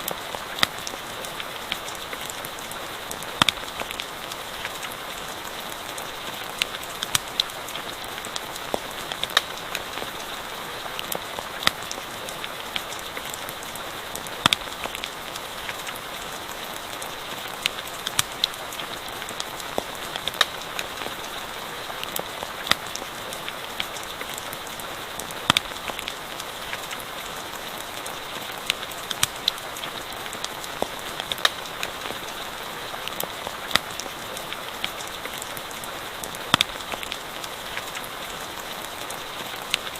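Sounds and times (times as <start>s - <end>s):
campfire crackling and popping: 0.0s - 39.9s
rain falling: 0.0s - 39.9s.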